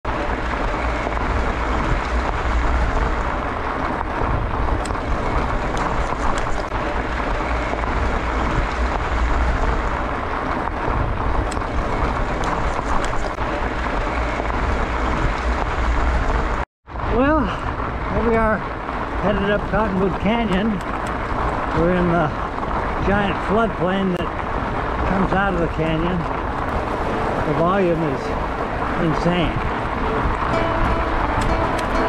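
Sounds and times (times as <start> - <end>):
bicycle tyres rumbling on dirt: 0.0 - 32.0
wind rushing over microphone: 0.0 - 32.0.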